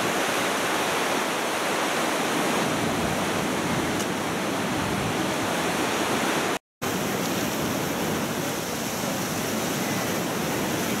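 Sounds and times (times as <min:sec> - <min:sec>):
fast river rushing: 0:00.0 - 0:11.0.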